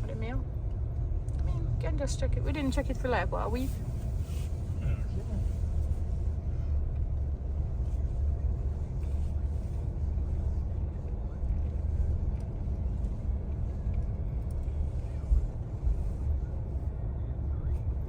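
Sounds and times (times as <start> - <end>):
road rumble inside car: 0.0 - 18.0.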